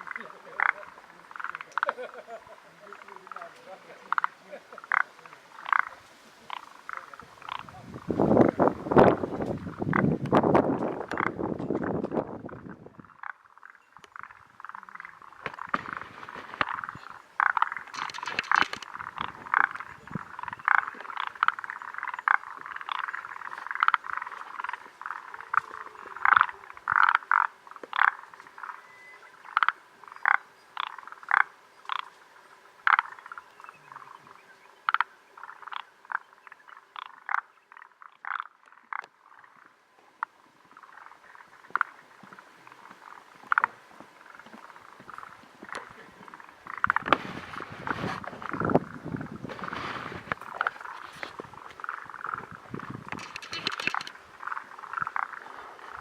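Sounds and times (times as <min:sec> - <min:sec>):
distant frogs calling: 0:00.0 - 0:56.0
frogs croaking: 0:00.0 - 0:56.0.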